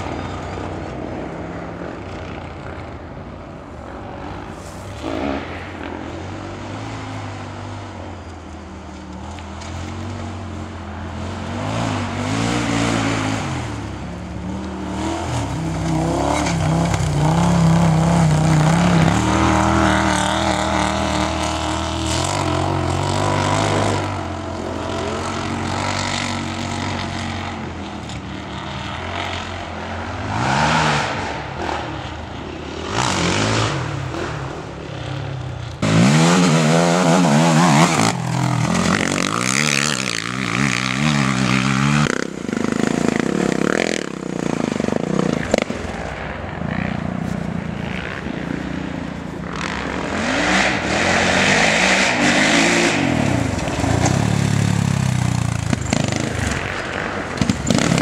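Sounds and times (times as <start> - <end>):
quad engines revving: 4.0 - 58.0.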